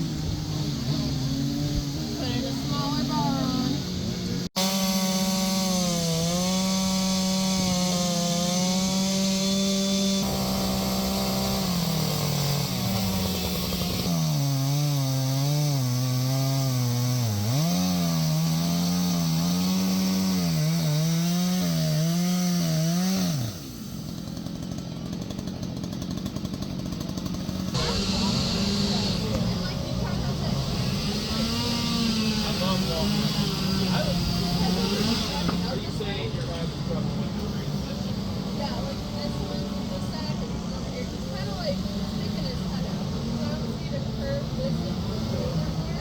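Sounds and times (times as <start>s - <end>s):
chainsaw carving wood: 0.0s - 46.0s.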